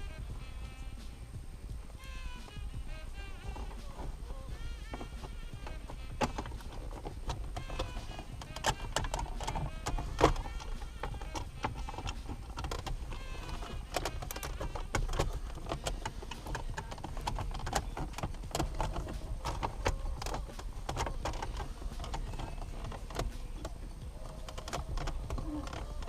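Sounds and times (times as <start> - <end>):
low steady rumble: 0.0 - 26.0
plastic parts clicking together: 4.6 - 26.0.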